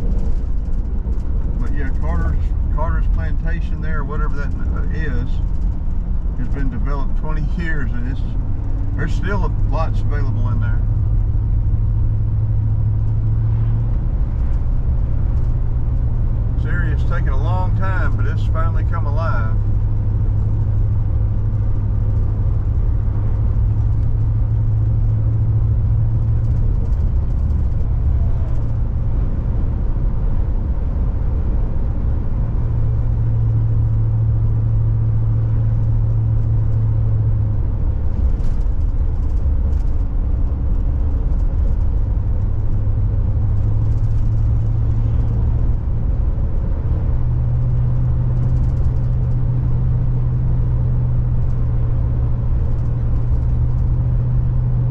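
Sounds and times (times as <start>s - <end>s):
car cabin road and engine noise: 0.0s - 54.9s.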